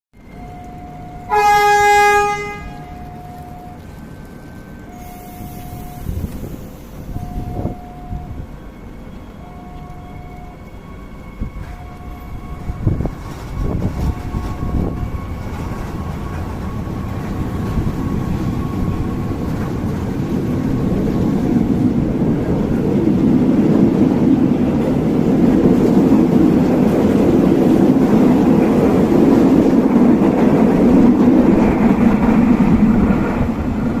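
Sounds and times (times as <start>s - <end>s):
train rumbling past: 0.2s - 34.0s.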